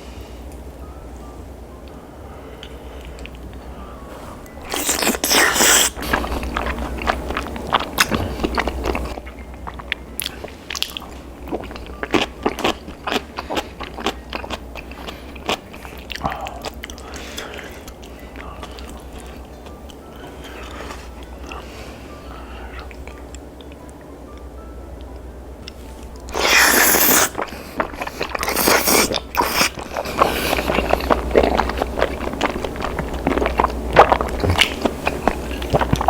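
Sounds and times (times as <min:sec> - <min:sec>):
soft chewing: 0:00.2 - 0:36.0.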